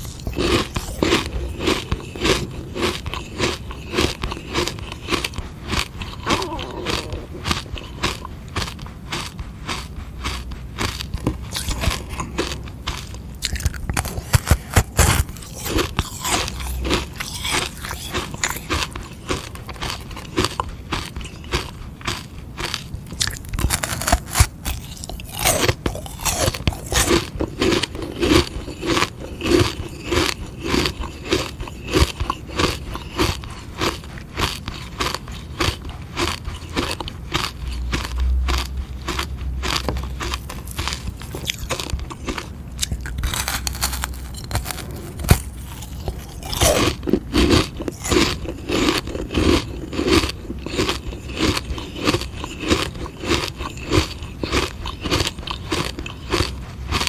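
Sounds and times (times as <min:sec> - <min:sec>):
crunching ice pop: 0:00.0 - 0:57.0.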